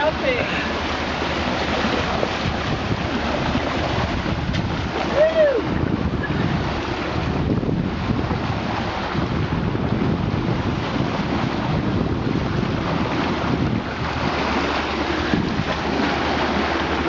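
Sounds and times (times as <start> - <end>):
water rushing along boat bow: 0.0 - 17.0
wind buffeting microphone: 0.0 - 17.0.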